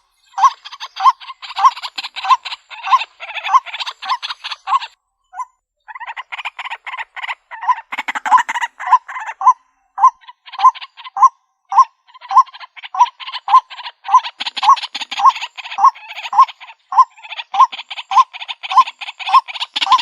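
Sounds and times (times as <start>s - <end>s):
bird rasping calls: 0.0s - 20.0s.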